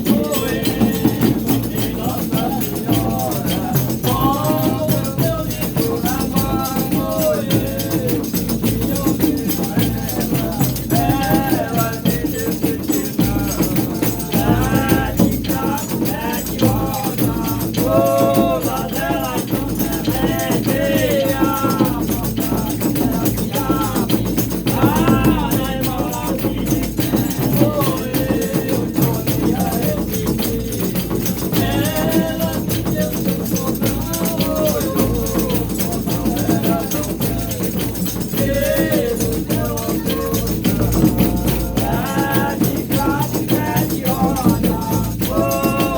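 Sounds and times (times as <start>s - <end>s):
people singing: 0.0s - 45.9s
tambourines and rattles shaken: 0.0s - 45.9s.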